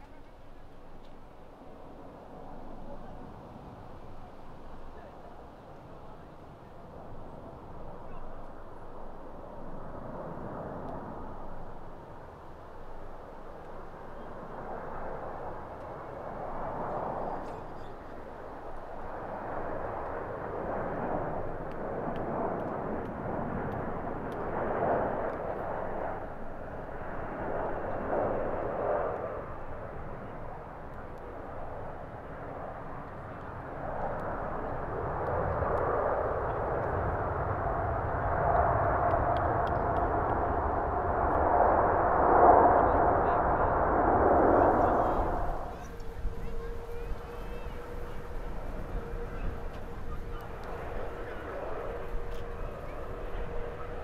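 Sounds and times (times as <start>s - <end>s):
jet engines rushing: 5.6s - 54.0s.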